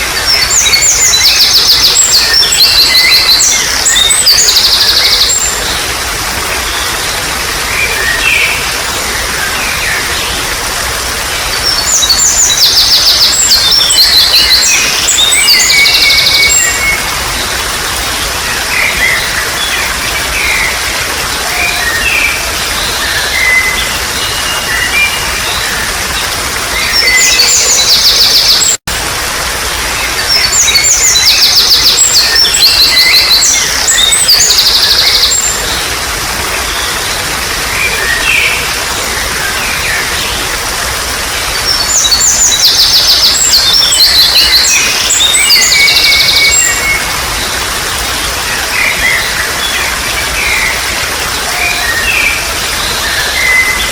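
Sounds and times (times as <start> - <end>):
running water babbling: 0.0 - 53.9
songbirds calling: 0.0 - 53.9.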